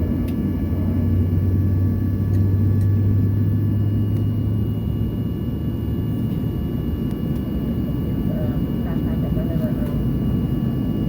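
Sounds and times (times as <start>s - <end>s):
faint engine whines: 0.0s - 11.0s
jet engine rumble in cabin: 0.0s - 11.0s.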